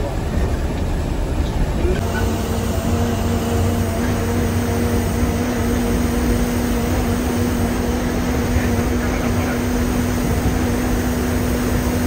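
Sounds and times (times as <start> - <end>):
bus engine drone: 0.0 - 12.0
constant hum: 0.0 - 12.0
road rumble: 0.0 - 12.0.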